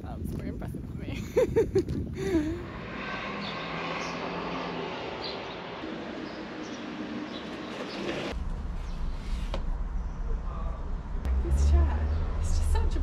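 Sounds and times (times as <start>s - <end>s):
distant traffic: 2.2s - 13.0s.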